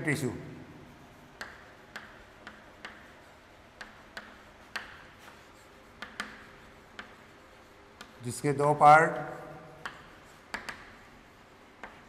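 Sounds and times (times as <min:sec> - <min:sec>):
chalk scratching on board: 0:00.0 - 0:12.0
chalk tapping on board: 0:00.9 - 0:08.3, 0:09.1 - 0:12.0.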